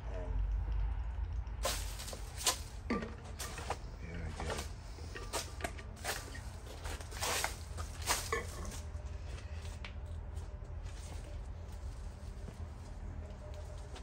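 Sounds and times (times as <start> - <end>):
steady low hum: 0.0 - 14.0
foliage rustling: 1.6 - 14.0.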